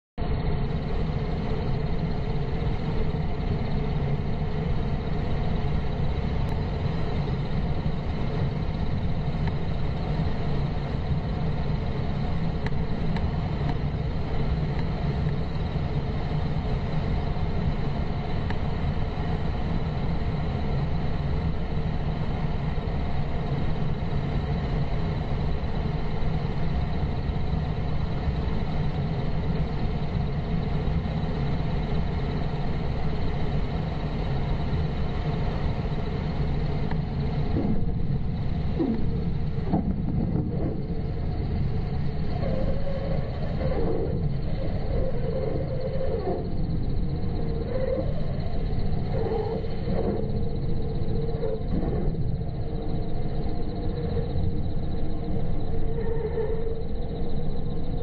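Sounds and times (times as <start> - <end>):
small plane engine rumble: 0.2 - 58.0.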